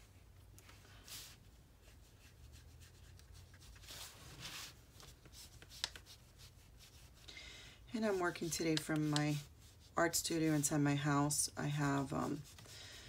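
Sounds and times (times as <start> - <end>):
paintbrush stroking across paper: 0.7 - 7.3, 7.9 - 13.0.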